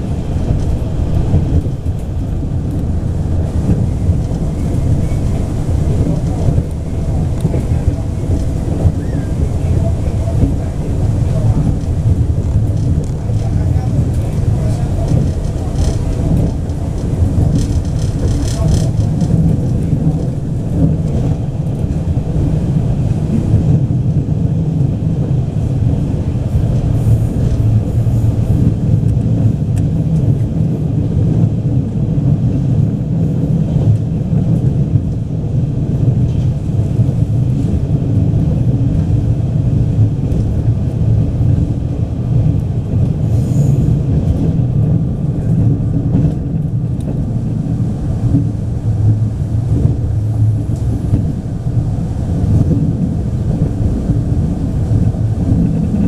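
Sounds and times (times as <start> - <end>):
train engine and wheels rumbling: 0.0 - 56.0.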